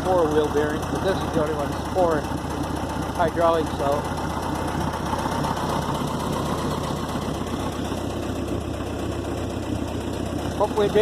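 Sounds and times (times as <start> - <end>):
skid steer engine idling: 0.0 - 11.0.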